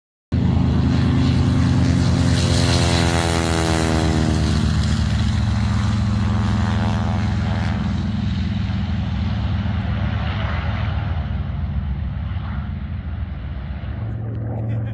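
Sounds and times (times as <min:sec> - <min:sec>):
aircraft engine drone: 0:00.3 - 0:14.9.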